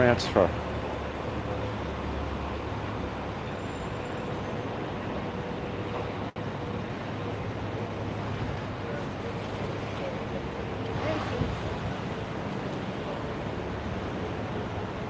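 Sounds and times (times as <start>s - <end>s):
city street traffic hum: 0.0s - 15.0s.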